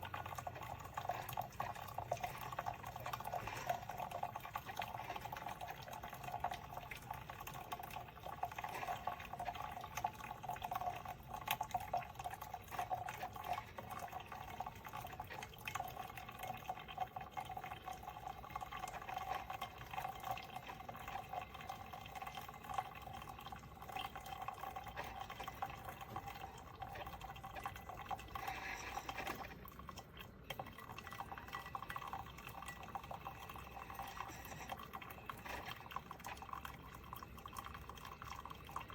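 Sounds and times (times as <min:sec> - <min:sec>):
coffee maker bubbling and trickling: 0:00.0 - 0:38.9.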